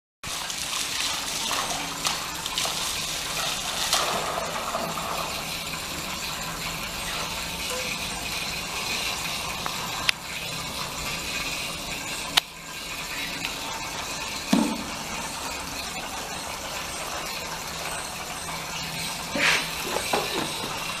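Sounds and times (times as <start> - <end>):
hose water splashing on tiles: 0.2 - 21.0.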